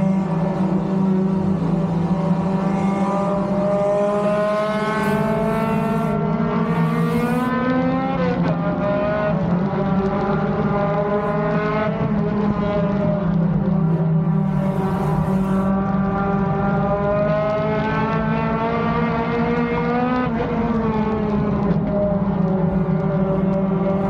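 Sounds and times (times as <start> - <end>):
race car engine revving: 0.0 - 13.2, 14.0 - 24.0.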